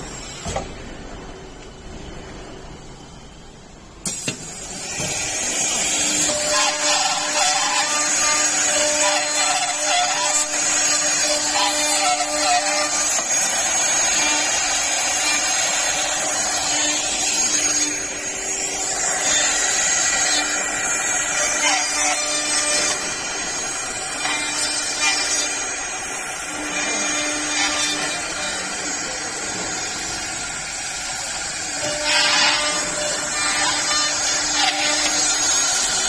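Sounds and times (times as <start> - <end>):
drilling machine cutting with whine: 4.1 - 36.0.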